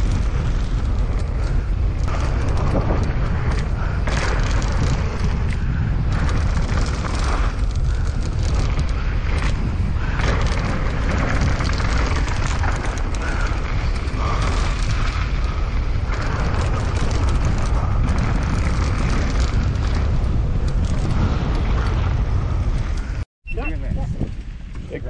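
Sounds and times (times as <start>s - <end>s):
small clicks and rattles: 0.0s - 23.2s
wind buffeting microphone: 0.0s - 25.0s.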